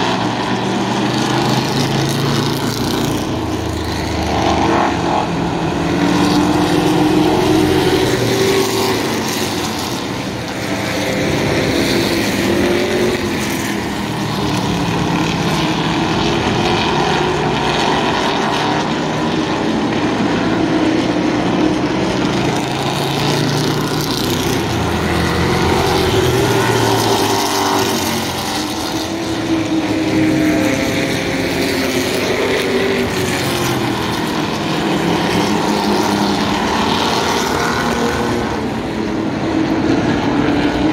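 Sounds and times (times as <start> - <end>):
race car engines passing: 0.0 - 40.9.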